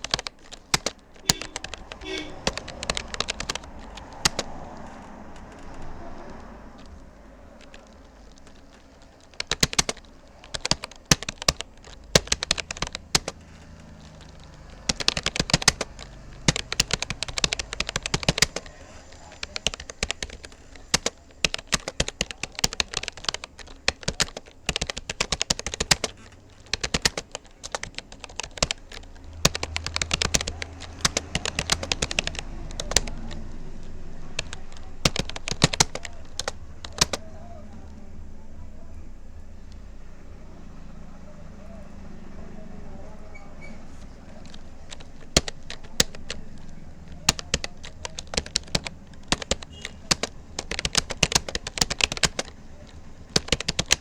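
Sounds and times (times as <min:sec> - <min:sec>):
computer keyboard typing: 0:00.0 - 0:38.2, 0:40.6 - 0:54.0.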